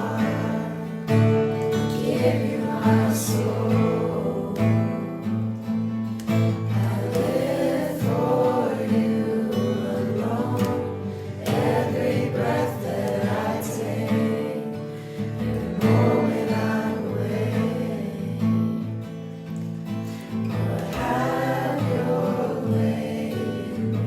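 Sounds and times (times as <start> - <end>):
group singing worship song: 0.0 - 19.1, 20.0 - 24.0
strummed guitar: 0.0 - 24.0.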